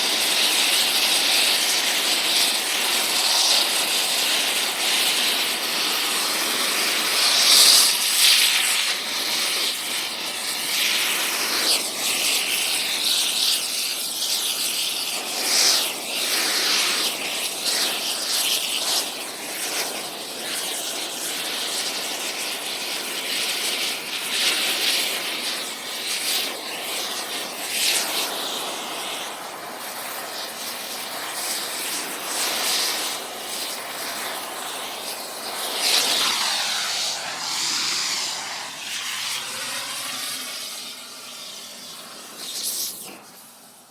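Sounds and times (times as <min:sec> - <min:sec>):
air torch hissing on metal: 0:00.0 - 0:43.9.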